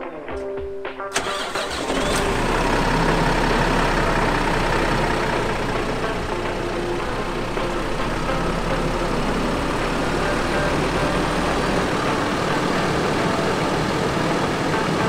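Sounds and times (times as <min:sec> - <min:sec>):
diesel engine idling: 0:01.1 - 0:15.0.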